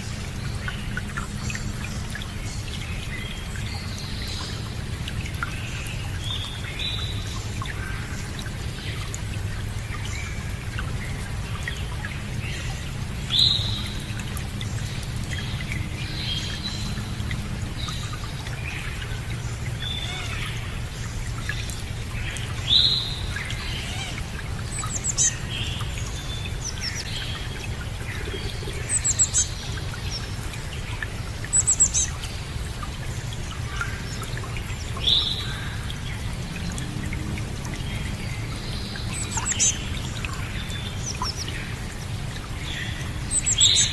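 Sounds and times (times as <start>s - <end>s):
running water: 0.0s - 43.9s.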